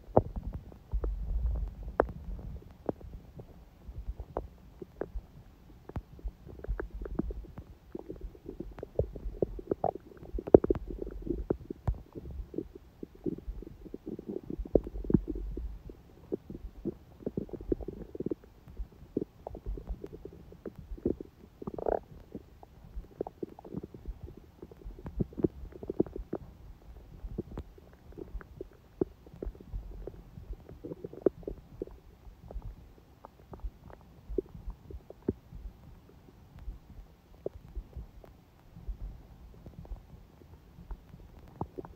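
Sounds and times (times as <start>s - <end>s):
stomach gurgling: 0.0s - 41.9s.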